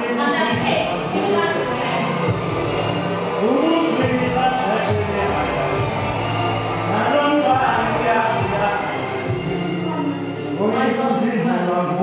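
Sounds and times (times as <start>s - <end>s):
music with held tones: 0.0s - 12.0s.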